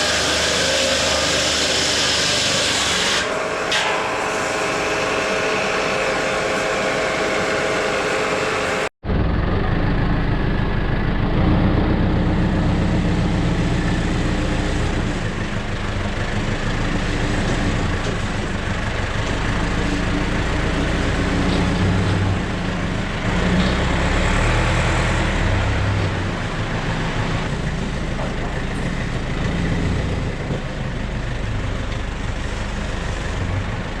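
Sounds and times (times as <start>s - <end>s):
heavy machinery low hum: 3.2s - 34.0s.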